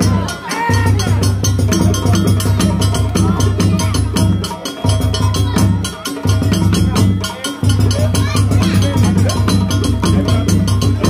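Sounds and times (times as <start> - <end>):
deep bass: 0.0 - 11.0
woody clacking percussion: 0.0 - 11.0.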